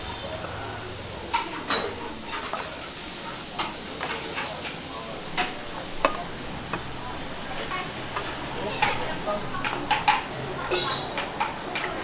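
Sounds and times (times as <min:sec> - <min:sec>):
food frying sizzle: 0:00.0 - 0:12.0.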